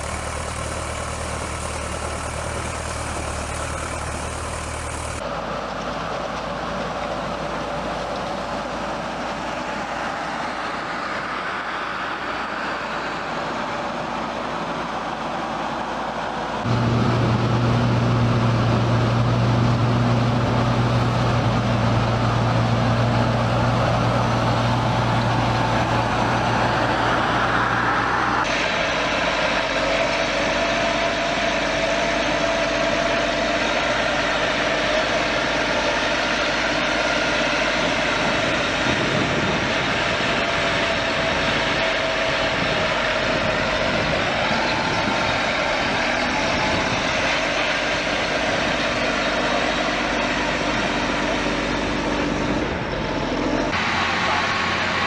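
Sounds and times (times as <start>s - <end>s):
heavy agricultural machinery running: 0.0s - 55.0s.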